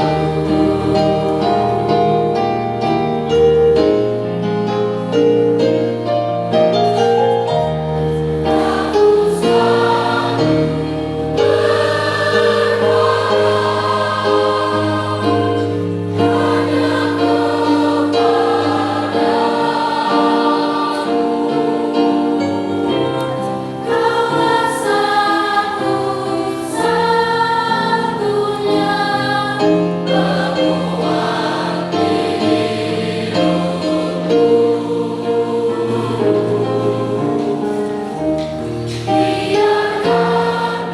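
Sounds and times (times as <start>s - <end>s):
choir singing in parts: 0.0s - 4.0s, 6.5s - 40.9s.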